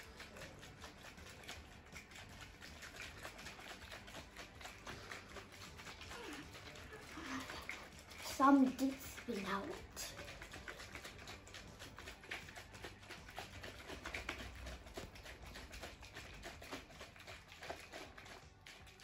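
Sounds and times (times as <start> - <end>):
shaker cup knocking and sloshing: 0.0 - 19.0.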